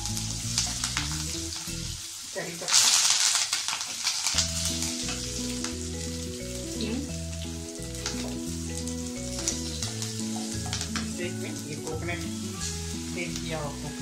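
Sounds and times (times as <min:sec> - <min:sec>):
background music sustained notes: 0:00.0 - 0:02.0, 0:04.4 - 0:14.0
oil sizzling in a pan: 0:00.0 - 0:14.0.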